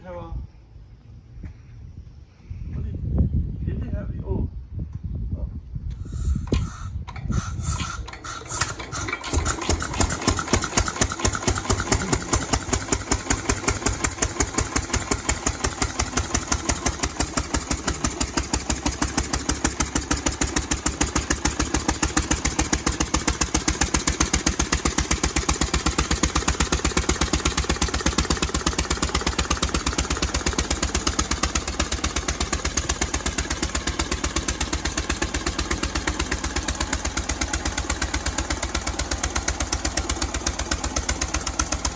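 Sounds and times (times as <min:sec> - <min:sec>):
single-cylinder engine running: 0:06.0 - 0:41.9.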